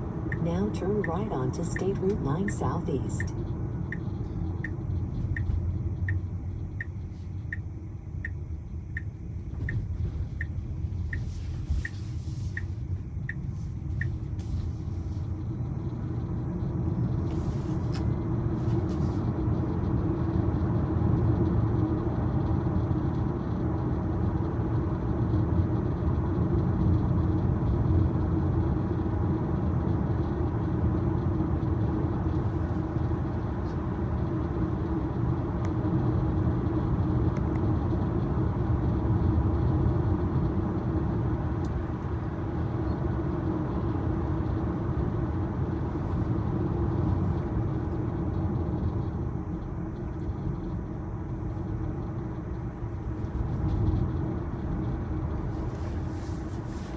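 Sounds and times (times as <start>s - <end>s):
road and tyre noise in car cabin: 0.0s - 56.9s.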